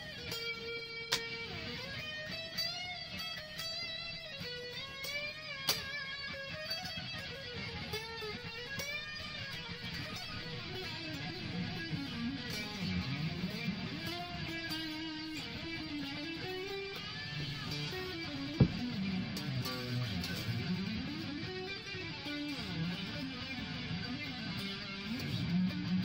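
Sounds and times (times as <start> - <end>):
electric guitar lead line: 0.0 - 26.0.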